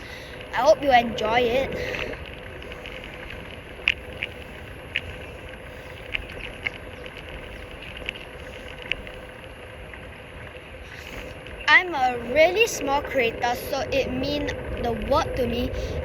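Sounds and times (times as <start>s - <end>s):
bicycle riding rush: 0.0s - 16.0s.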